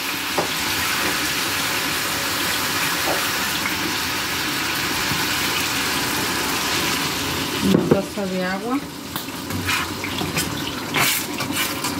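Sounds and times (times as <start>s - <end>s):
skillet hissing and bubbling: 0.0s - 11.9s.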